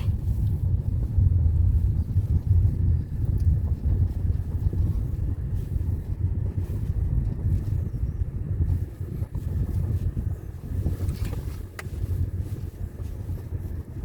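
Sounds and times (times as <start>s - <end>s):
engine and road noise: 0.0s - 14.0s
wind buffeting microphone: 0.0s - 14.0s.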